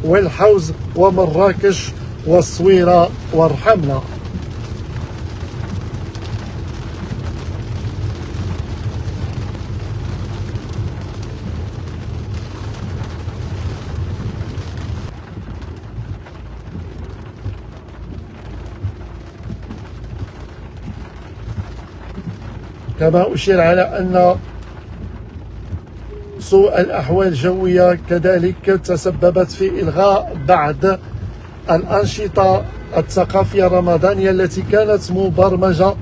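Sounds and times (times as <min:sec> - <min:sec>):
car cabin rumble: 0:00.0 - 0:36.0
rain hissing on windscreen: 0:00.0 - 0:36.0.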